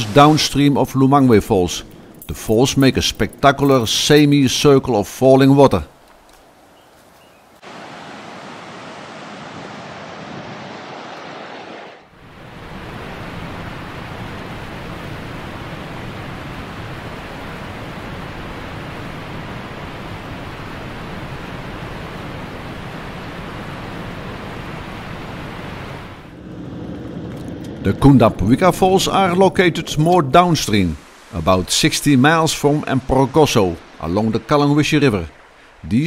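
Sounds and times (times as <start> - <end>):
waterfall roaring: 0.0 - 4.7, 7.6 - 26.4, 27.2 - 36.0.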